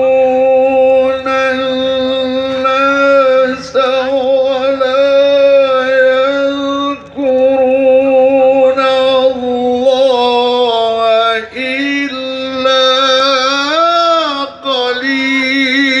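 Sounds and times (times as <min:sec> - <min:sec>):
man reciting melodically over loudspeaker: 0:00.0 - 0:16.0.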